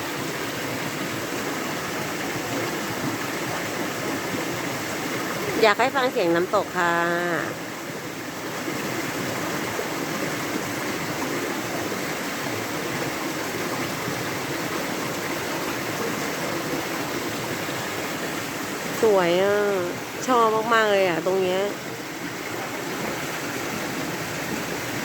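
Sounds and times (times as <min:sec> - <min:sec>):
waterfall rushing and splashing: 0:00.0 - 0:25.0.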